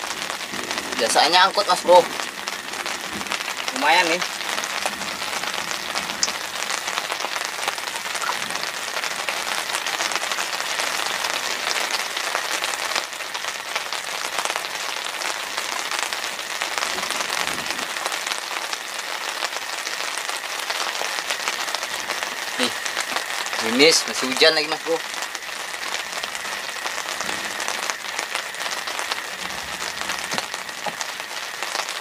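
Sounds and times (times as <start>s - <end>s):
rain on river water: 0.0s - 32.0s
rain pattering on fabric canopy: 0.0s - 32.0s.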